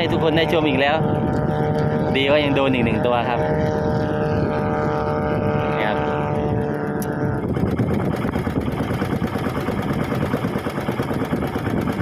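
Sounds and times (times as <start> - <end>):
small boat engine chugging: 0.0 - 12.0.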